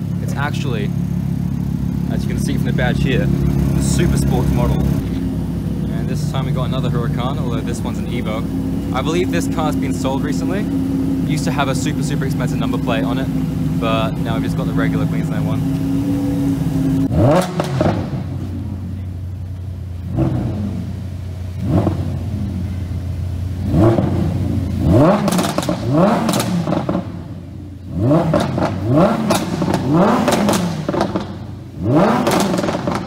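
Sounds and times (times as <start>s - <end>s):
car engine idling: 0.0s - 33.0s
car engine throttle blips: 0.0s - 33.0s.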